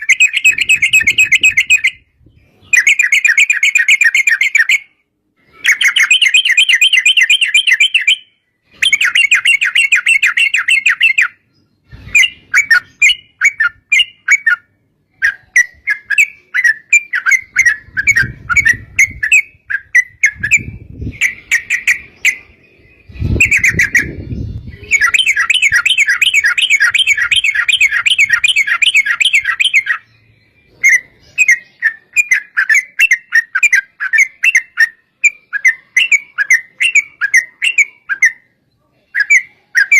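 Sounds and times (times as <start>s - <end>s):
bird singing rattling chatter: 0.0s - 39.9s.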